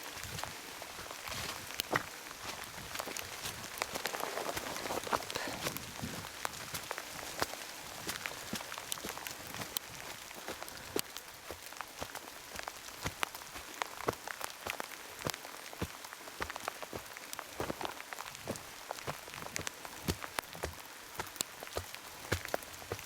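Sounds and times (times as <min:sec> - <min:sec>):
raindrops hitting close by: 0:00.0 - 0:23.0.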